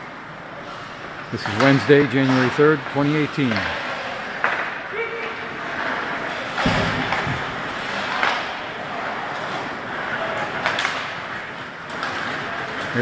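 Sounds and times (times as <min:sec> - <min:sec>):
skates scraping on ice: 0:00.5 - 0:13.0
hockey sticks and puck clacking: 0:00.7 - 0:13.0.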